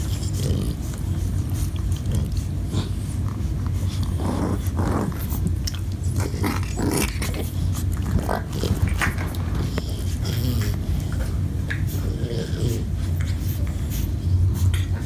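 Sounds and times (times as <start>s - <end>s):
dogs growling: 0.0s - 15.0s
dogs mouthing sounds: 0.0s - 15.0s
steady low hum: 0.0s - 15.0s.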